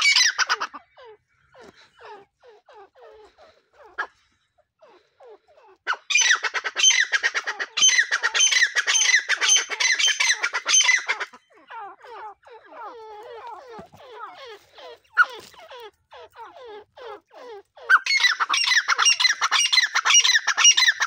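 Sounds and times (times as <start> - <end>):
partridges calling: 0.0 - 5.1, 5.7 - 21.0.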